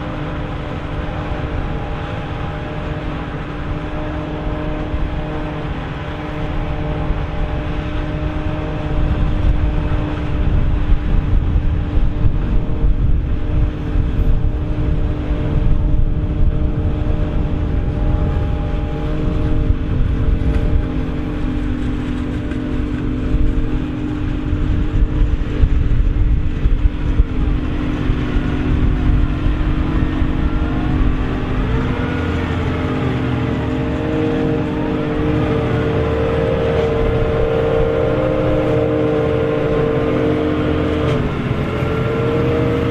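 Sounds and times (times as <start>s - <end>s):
diesel farm machinery running: 0.0s - 42.9s.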